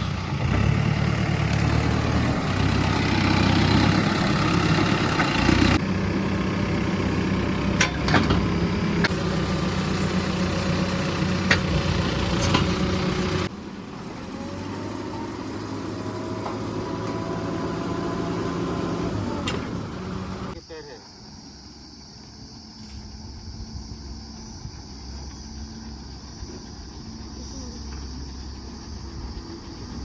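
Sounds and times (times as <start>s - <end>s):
heavy diesel engine running: 0.0s - 20.6s, 23.2s - 30.0s.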